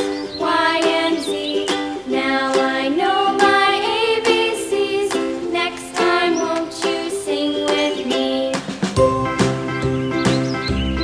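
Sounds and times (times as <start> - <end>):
cheerful children's music: 0.0 - 11.0.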